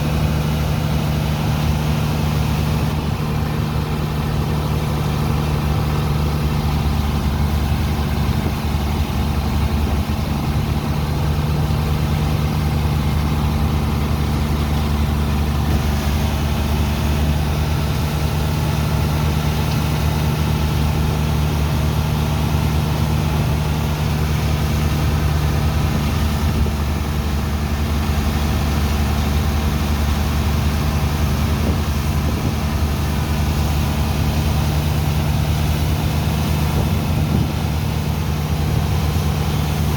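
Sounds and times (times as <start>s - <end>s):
diesel pump engine running: 0.0s - 39.9s.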